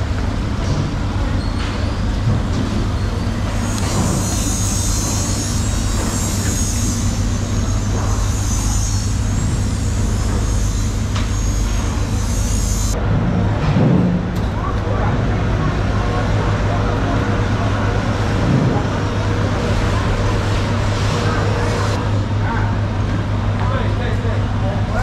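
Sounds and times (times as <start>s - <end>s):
low mechanical hum: 0.0s - 25.0s
noisy background: 0.0s - 25.0s.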